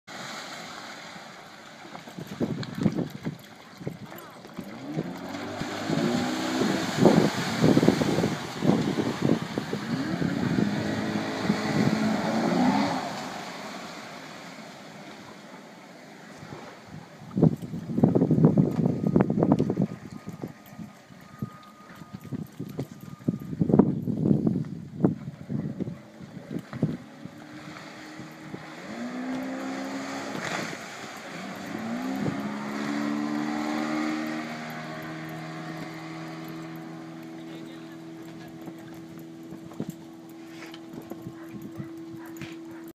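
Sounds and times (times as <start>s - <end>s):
speedboat engine drone: 0.2s - 23.9s, 24.9s - 42.9s
wind on microphone: 1.9s - 13.9s, 16.4s - 42.9s.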